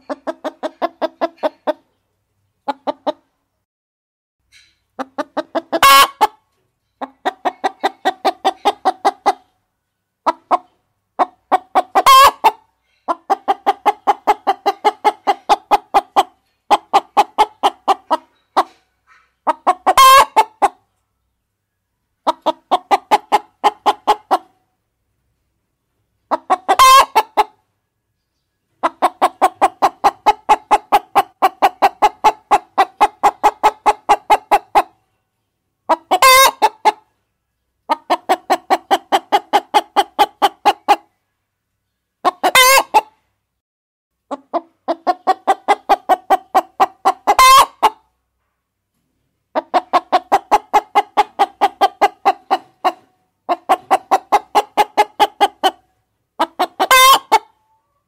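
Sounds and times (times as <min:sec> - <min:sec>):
hens clucking: 0:00.0 - 0:02.0, 0:02.6 - 0:03.4, 0:04.9 - 0:09.6, 0:10.2 - 0:21.0, 0:22.2 - 0:24.6, 0:26.2 - 0:27.7, 0:28.7 - 0:35.1, 0:35.8 - 0:37.2, 0:37.8 - 0:41.2, 0:42.2 - 0:43.3, 0:44.3 - 0:48.2, 0:49.4 - 0:58.0.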